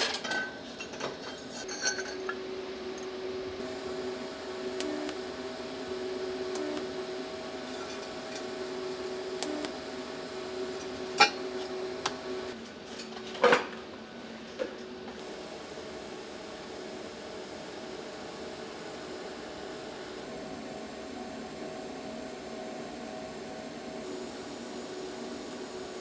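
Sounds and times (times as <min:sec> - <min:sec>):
steady machine hum: 0:02.1 - 0:12.6, 0:15.1 - 0:26.0.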